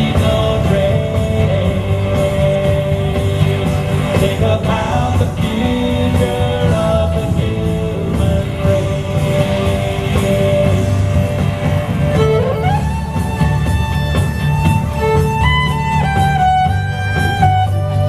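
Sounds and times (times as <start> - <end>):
guitar: 0.0 - 18.0
held melody line: 0.0 - 18.0
low accompaniment: 0.0 - 18.0.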